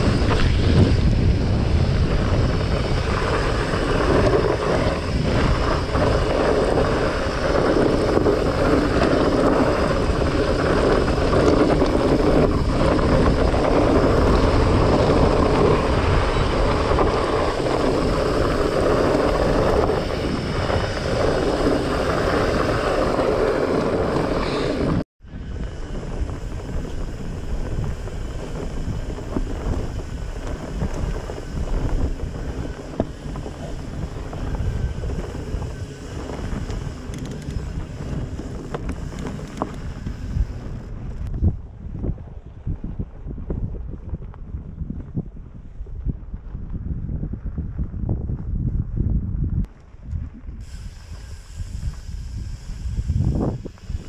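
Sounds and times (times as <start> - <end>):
bike tyres rolling on gravel: 0.0 - 54.0
wind on microphone: 0.0 - 54.0.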